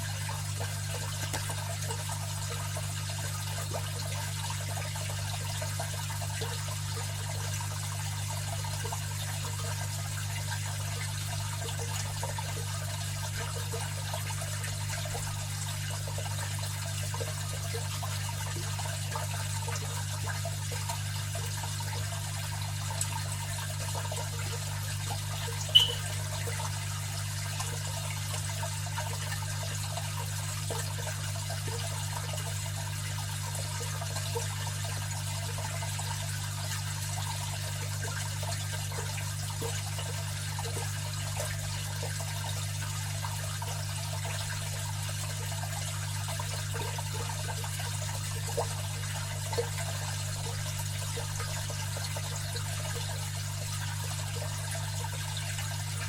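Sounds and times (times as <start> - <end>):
pump motor humming: 0.0 - 56.0
water trickling and splashing: 0.0 - 56.0.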